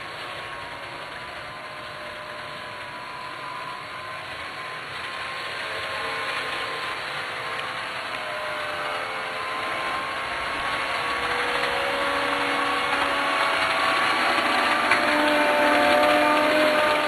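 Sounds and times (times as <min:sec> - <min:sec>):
faint motor whine: 0:00.0 - 0:17.0
model train rolling rumble: 0:00.0 - 0:17.0.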